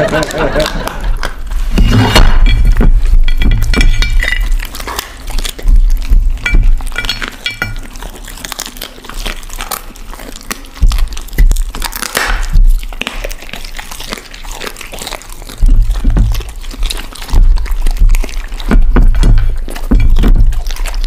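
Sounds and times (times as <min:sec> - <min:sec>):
dogs crunching bones: 0:00.0 - 0:21.0
teeth clinking on plate: 0:00.1 - 0:21.0.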